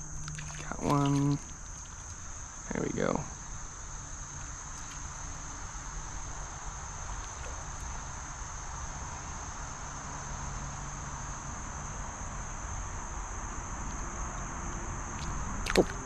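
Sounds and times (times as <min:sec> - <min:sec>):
high-pitched insect trill: 0:00.0 - 0:16.0
low steady rumble: 0:00.0 - 0:16.0.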